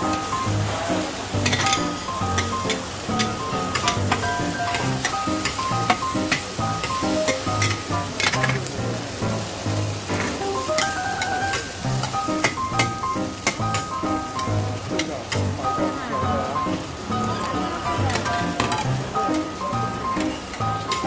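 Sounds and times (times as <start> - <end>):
food sizzling on a wok: 0.0 - 21.0.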